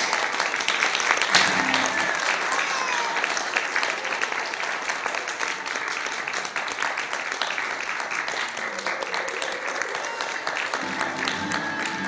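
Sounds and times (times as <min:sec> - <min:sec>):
audience applause: 0:00.0 - 0:12.0.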